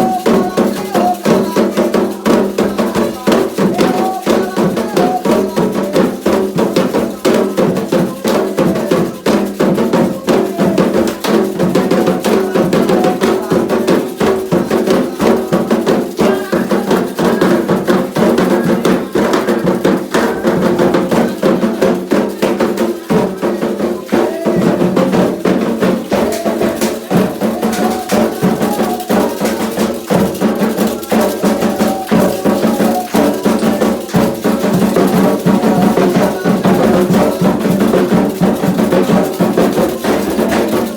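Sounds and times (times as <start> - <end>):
hand drums fast rhythm: 0.0 - 40.9.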